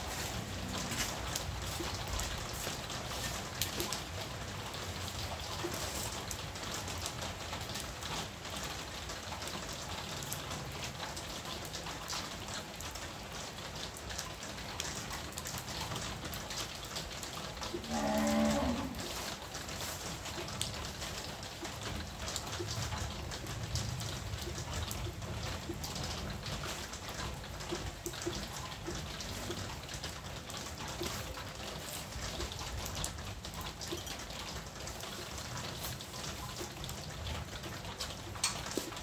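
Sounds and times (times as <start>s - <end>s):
rain pattering: 0.0s - 39.0s.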